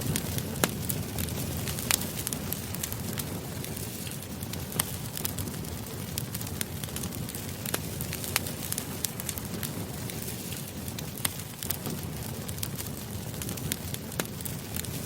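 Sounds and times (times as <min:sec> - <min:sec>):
campfire flames rushing: 0:00.0 - 0:15.0
fire popping and crackling: 0:00.0 - 0:15.0.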